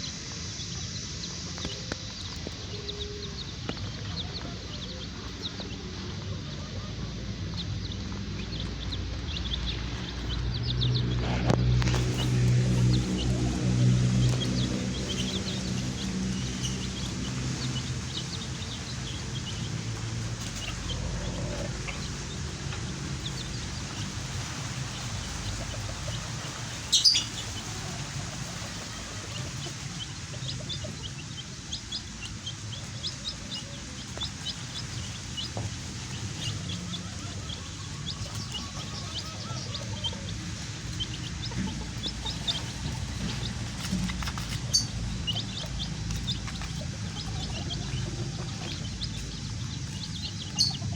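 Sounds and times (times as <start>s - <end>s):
baby chicks peeping: 0.0s - 50.9s.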